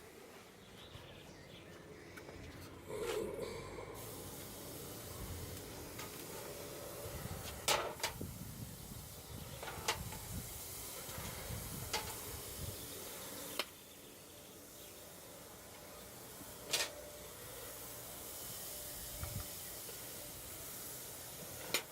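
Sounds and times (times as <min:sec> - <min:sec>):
forge hissing and rumbling: 0:02.8 - 0:21.9.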